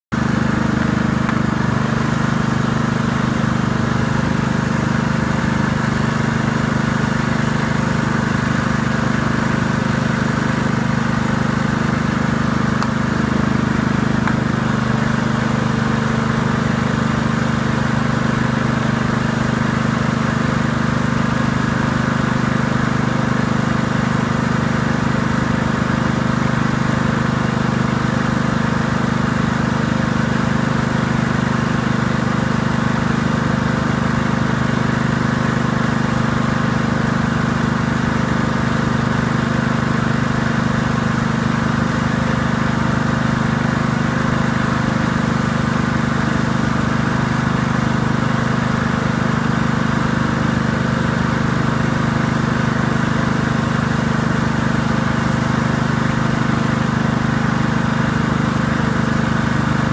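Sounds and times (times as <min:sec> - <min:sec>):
lawn mower engine running: 0:00.1 - 0:59.9.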